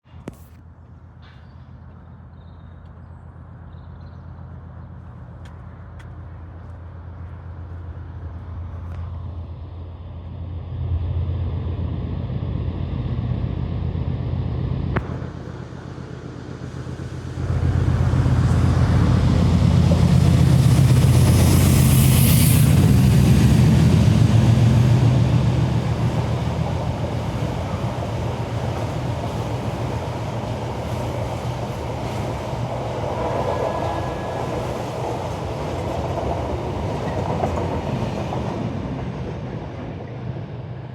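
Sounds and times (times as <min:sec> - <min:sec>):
diesel locomotive engine rumble: 0:00.1 - 0:40.9.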